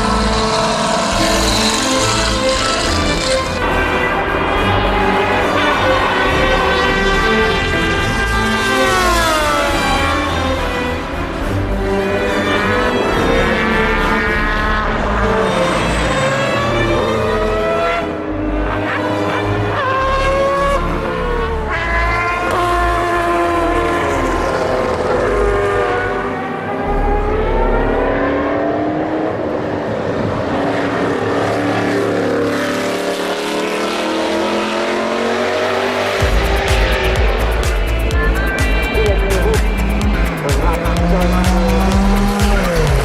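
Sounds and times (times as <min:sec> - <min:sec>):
racing car engine accelerating: 0:00.0 - 0:43.0.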